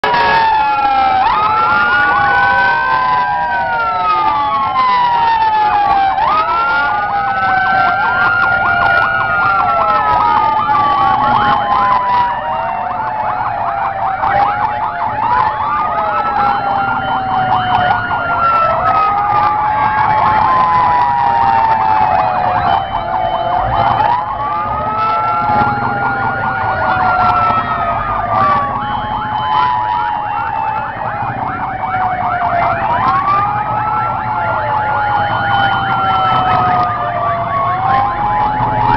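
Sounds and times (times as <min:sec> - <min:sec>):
fast siren yelp: 0:00.0 - 0:38.9
fire truck sirens wailing: 0:00.0 - 0:38.9.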